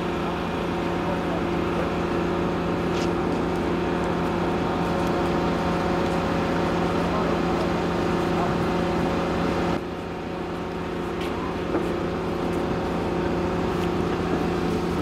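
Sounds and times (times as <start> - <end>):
large engine droning: 0.0 - 15.0.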